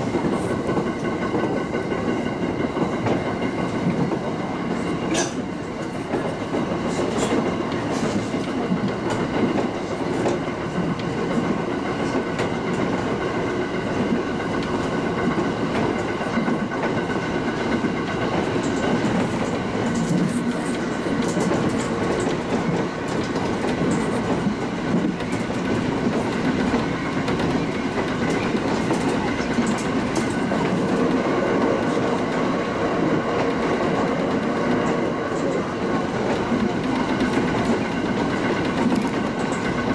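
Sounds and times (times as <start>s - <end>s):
train wheel and rail rumble: 0.0s - 39.9s
faint rail clicks: 0.1s - 39.9s.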